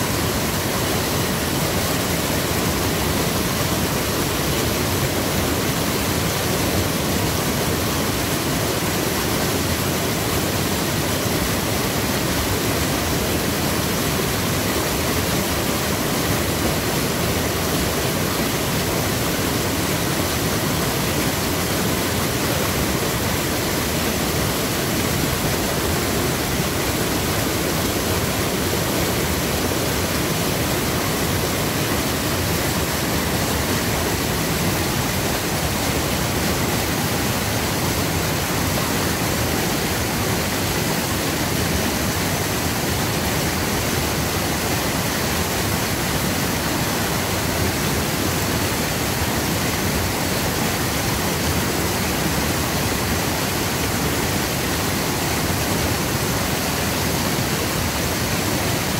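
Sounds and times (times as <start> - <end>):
creek water rushing through rapids: 0.0 - 58.9.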